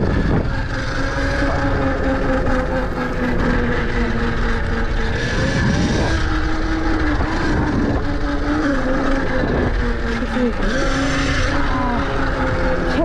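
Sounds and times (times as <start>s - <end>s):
electric motor whining: 0.0s - 13.0s
rushing wind: 0.0s - 13.0s.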